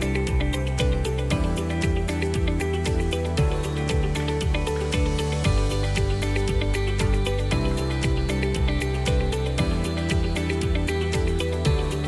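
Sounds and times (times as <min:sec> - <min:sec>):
bass line and chords: 0:00.0 - 0:12.0.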